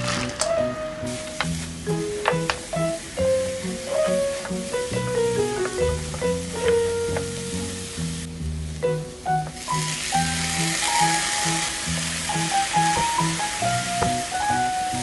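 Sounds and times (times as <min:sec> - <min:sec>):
background music: 0:00.0 - 0:15.0
small fish sizzling in frying pan: 0:00.0 - 0:15.0.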